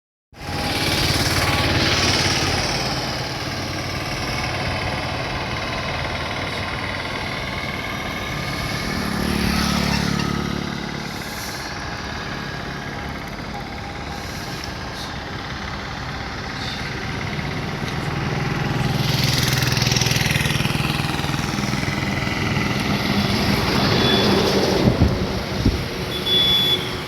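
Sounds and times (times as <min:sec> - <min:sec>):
road noise: 0:00.3 - 0:27.0
vehicle engine running: 0:00.4 - 0:27.0.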